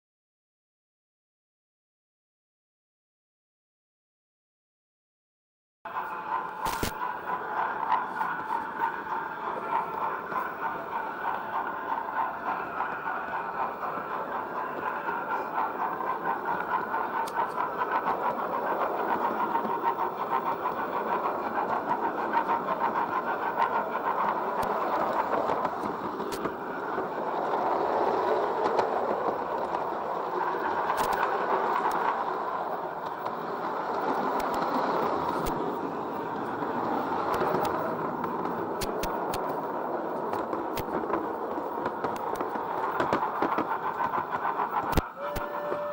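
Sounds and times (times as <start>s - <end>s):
model train motor whir: 5.9s - 45.9s
wheels clicking over rail joints: 5.9s - 45.9s
wheels rattling on rails: 5.9s - 45.9s.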